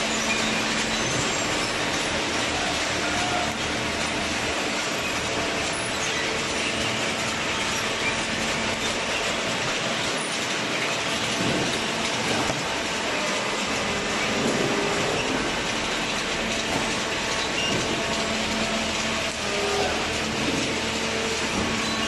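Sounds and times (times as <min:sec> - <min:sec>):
waste paper baler running: 0:00.0 - 0:22.0.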